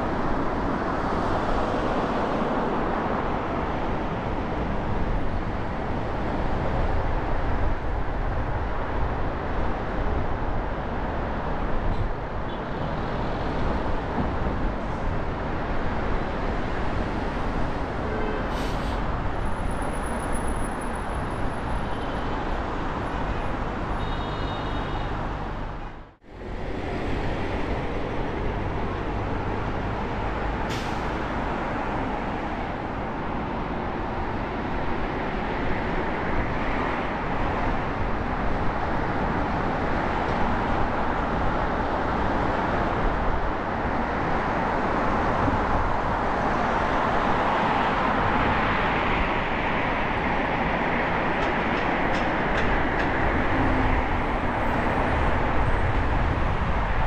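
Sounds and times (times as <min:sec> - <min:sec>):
city traffic rumble: 0:00.0 - 0:57.0.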